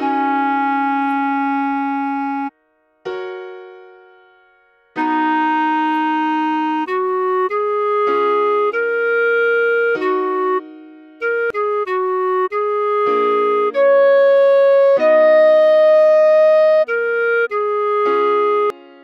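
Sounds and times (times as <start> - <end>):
clarinet melody: 0.0 - 3.4, 5.0 - 19.0
piano chord: 0.0 - 19.0.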